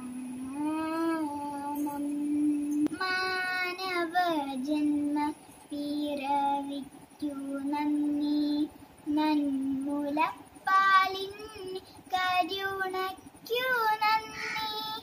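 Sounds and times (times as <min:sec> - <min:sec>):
girl singing unaccompanied: 0:00.0 - 0:15.0.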